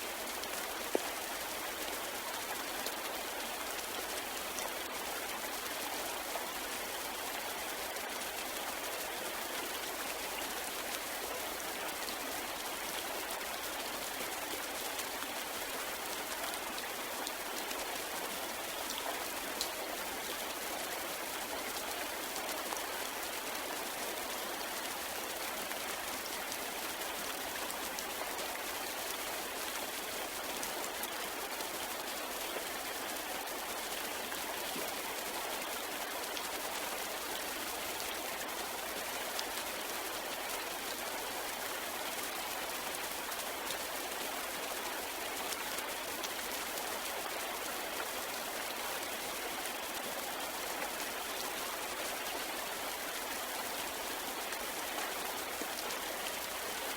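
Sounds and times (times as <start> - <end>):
steady rain: 0.0 - 56.9.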